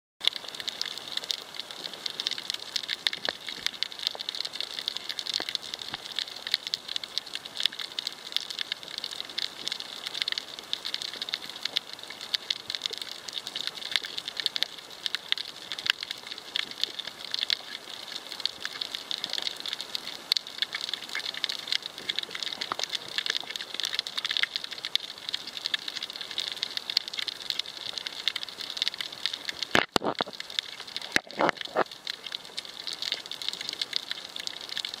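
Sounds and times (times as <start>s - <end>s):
snapping shrimp crackling underwater: 0.2s - 35.0s.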